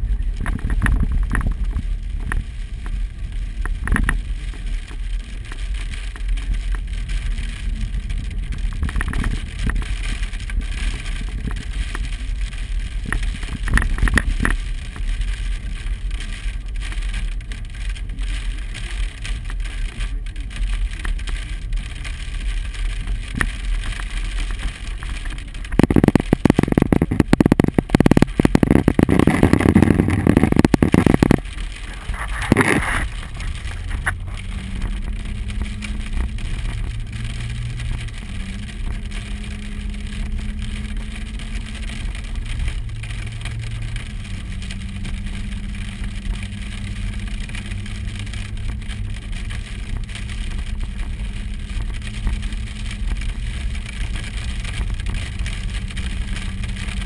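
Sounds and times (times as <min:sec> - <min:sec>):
hail pelting a vehicle: 0:00.0 - 0:57.0
vehicle rumbling on road: 0:00.0 - 0:57.0.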